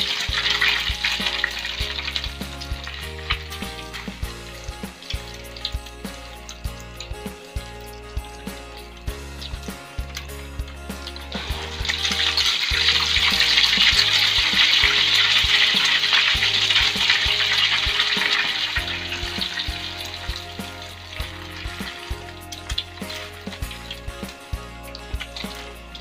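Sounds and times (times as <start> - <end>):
egg frying in hot oil: 0.0 - 26.0.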